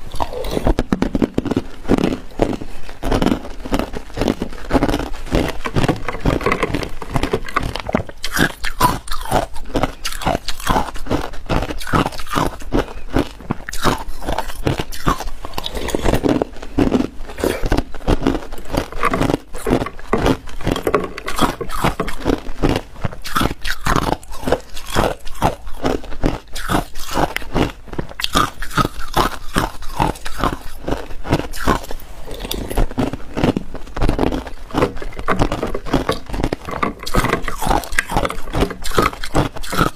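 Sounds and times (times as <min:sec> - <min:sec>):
ice cubes crunched and chewed: 0:00.0 - 0:39.9.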